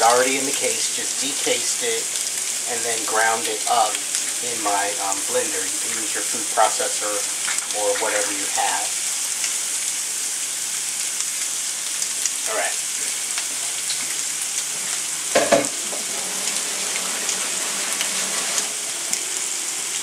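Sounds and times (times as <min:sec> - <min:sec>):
sausage sizzling in oil: 0:00.0 - 0:20.0.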